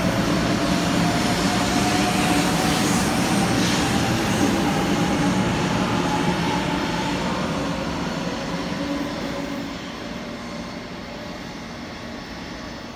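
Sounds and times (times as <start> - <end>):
train running noise: 0.0 - 12.9.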